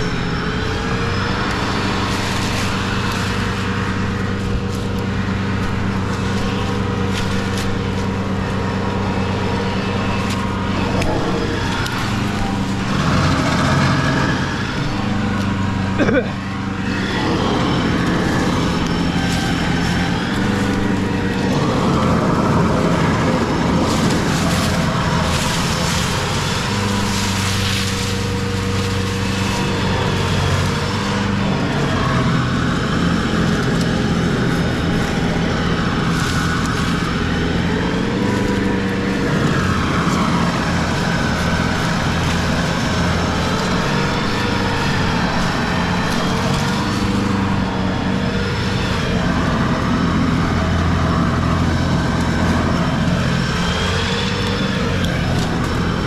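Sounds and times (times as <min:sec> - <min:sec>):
large engine running: 0:00.0 - 0:56.0.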